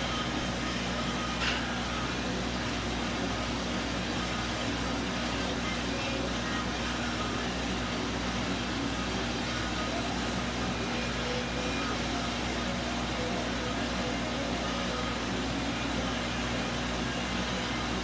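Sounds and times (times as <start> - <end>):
mechanical hum with hiss: 0.0 - 18.0.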